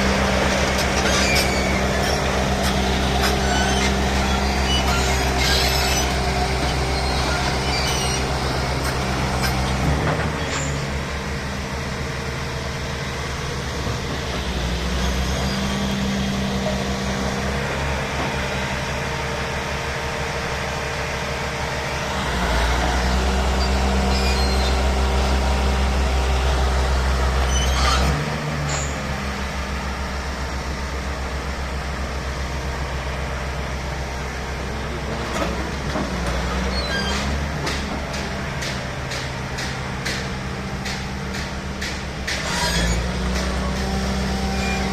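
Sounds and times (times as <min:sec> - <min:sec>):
heavy diesel machinery humming: 0:00.0 - 0:44.9.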